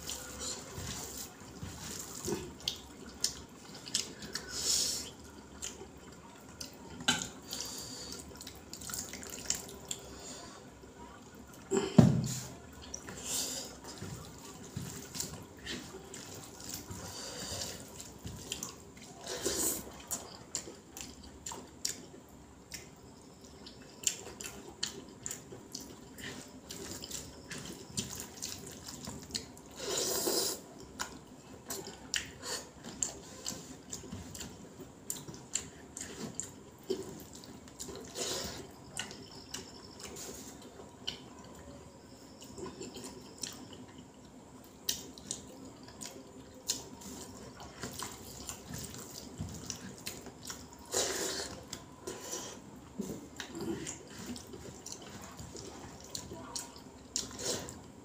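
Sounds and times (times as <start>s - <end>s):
wet chewing: 0.0s - 10.2s, 12.7s - 58.0s
wet squishing of fingers in rice: 0.0s - 11.7s, 12.4s - 58.0s.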